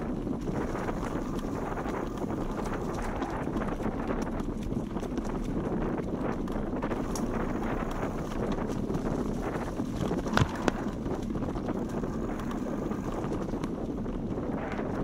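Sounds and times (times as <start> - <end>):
tyres rolling on dirt trail: 0.0 - 15.0
wind rushing over microphone: 0.0 - 15.0.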